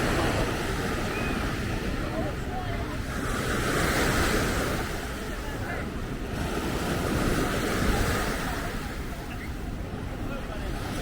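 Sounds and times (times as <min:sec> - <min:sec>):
ocean surf breaking on beach: 0:00.0 - 0:09.0.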